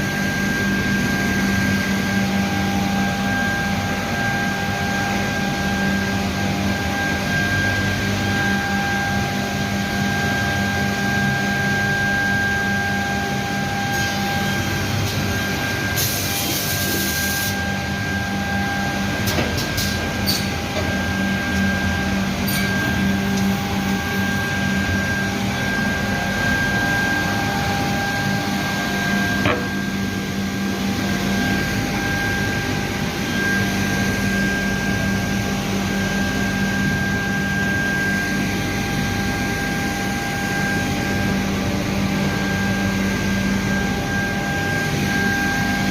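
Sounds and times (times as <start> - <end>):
machine hum with constant whine: 0.0 - 45.9.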